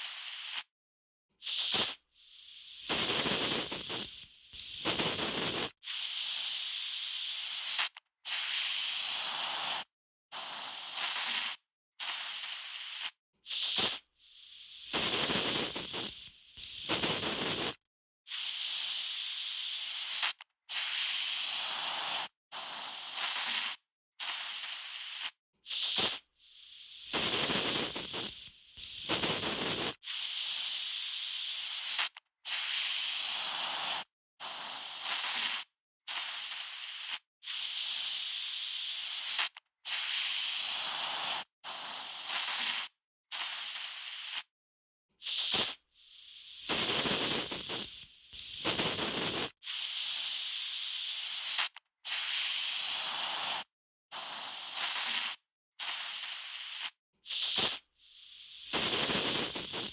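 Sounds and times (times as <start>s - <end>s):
aerosol spray can hissing: 0.0s - 0.7s, 1.4s - 44.5s, 45.2s - 59.9s.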